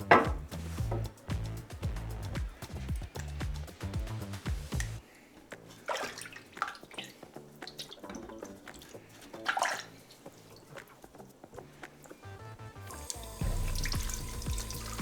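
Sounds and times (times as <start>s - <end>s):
water splashing and dripping: 0.0s - 15.0s.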